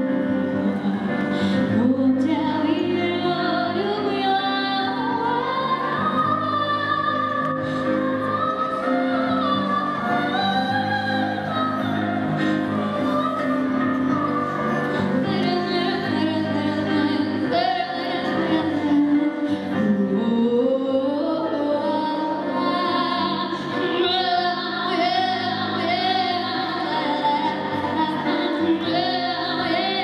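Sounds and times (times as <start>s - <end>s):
woman singing: 0.0s - 30.0s.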